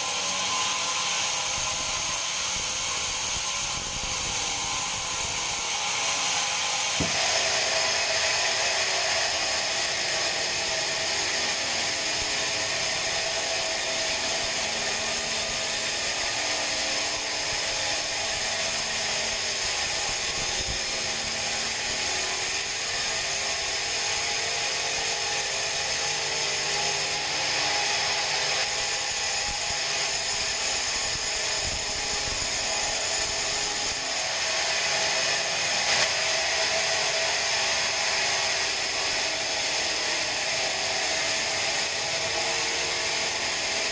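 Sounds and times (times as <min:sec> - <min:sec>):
band saw cutting log: 0:00.0 - 0:43.9.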